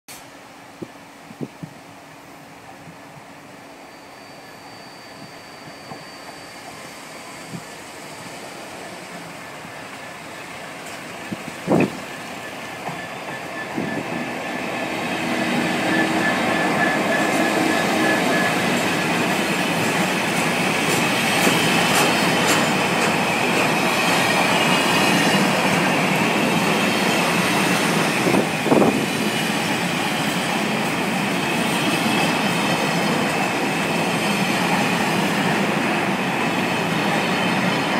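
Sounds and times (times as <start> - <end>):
diesel locomotive engine passing: 0.2 - 37.9.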